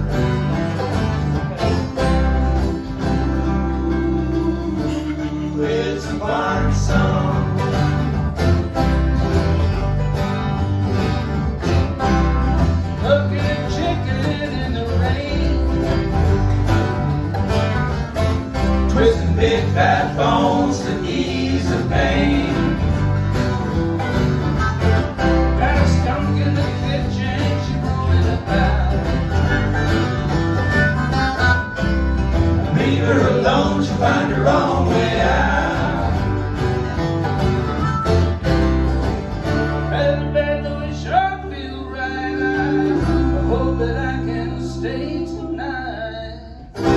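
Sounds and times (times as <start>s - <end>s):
plucked strings: 0.0s - 41.6s
bass line: 0.0s - 46.9s
strummed acoustic guitars: 0.0s - 46.9s.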